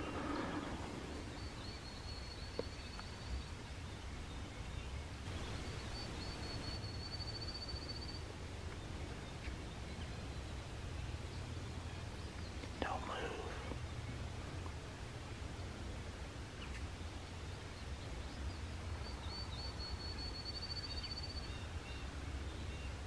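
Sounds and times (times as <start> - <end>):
low steady rumble: 0.0 - 20.4.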